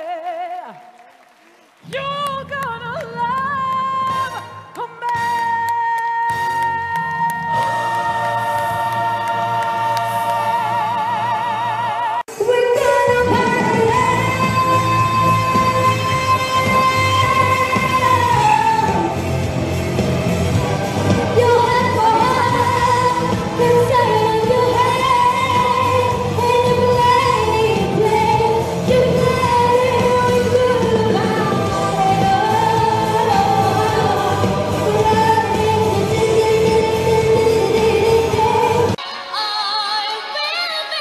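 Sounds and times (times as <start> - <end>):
woman singing into microphone: 0.0 - 0.9, 1.9 - 19.3, 21.3 - 41.0
backing music: 1.3 - 41.0.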